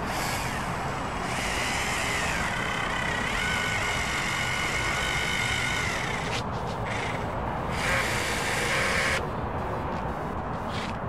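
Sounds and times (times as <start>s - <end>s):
electric caulking gun motor whining: 0.0s - 9.2s.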